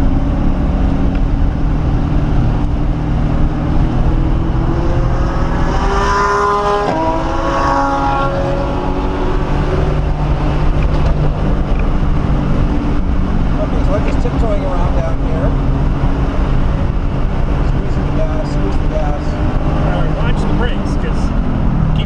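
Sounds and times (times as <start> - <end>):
car engine drone inside cabin: 0.0 - 22.0.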